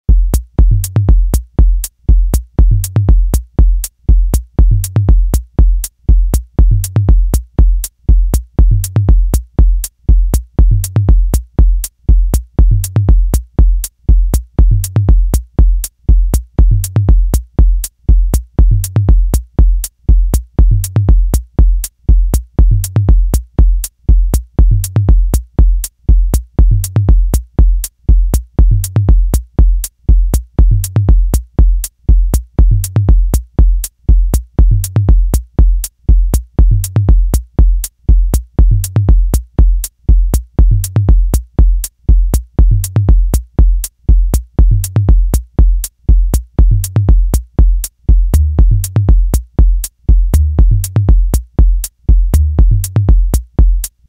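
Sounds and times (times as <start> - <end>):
electronic music with drum-machine beat: 0.1 - 54.0
heavy bass: 0.1 - 54.0.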